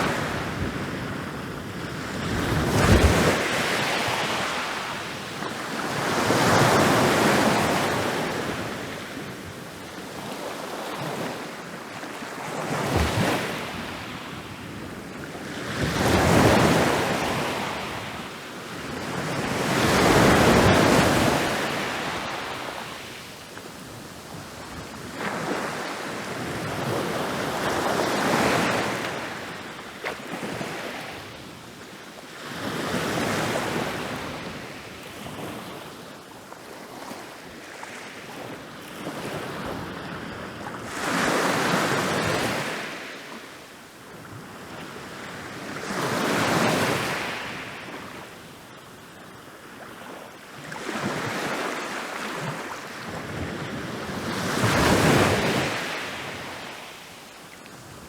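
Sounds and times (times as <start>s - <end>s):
ocean waves breaking on beach: 0.0s - 31.5s, 36.7s - 58.0s.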